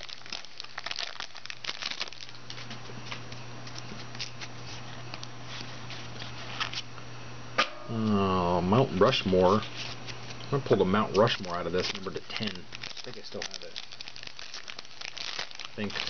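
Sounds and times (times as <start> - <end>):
foil wrapper crinkling: 0.0 - 6.9, 8.2 - 16.0
low steady hum: 0.0 - 16.0.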